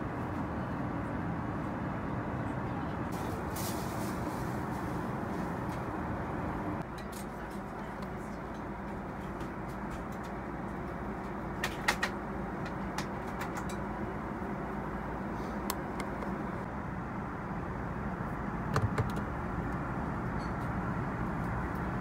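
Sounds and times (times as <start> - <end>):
airplane cabin noise: 0.0 - 22.0.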